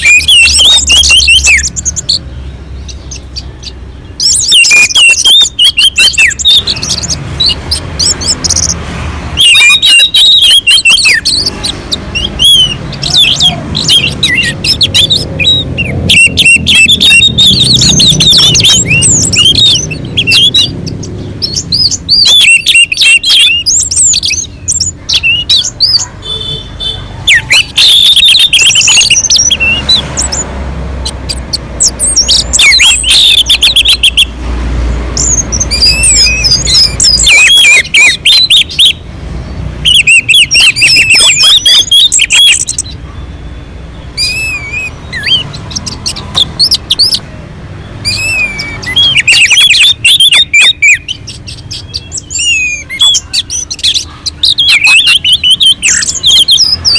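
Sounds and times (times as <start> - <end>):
thrush singing: 0.0 - 56.9.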